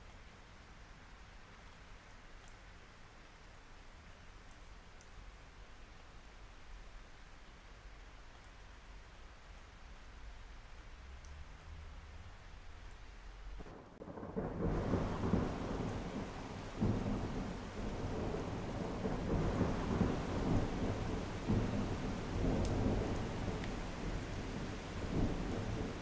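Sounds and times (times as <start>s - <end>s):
heavy rain in a forest: 0.0s - 26.0s.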